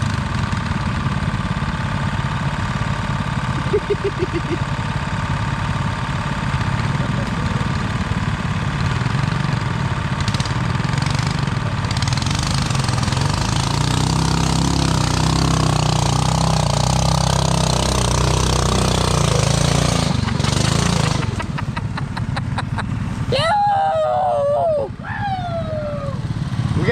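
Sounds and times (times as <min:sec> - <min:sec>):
tractor engine running hard: 0:00.0 - 0:26.9.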